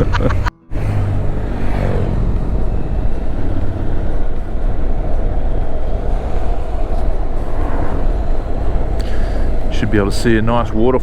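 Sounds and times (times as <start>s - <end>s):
motorcycle engine drone: 0.0s - 11.0s
wind rush on microphone: 0.0s - 11.0s.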